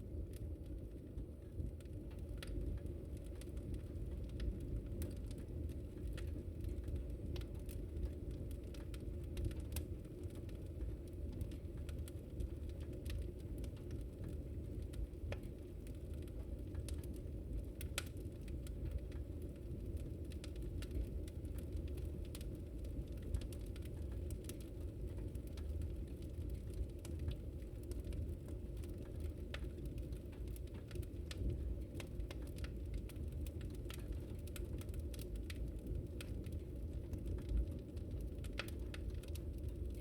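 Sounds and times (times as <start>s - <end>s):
burning wood crackling and popping: 0.0s - 40.0s
wood fire rumbling: 0.0s - 40.0s.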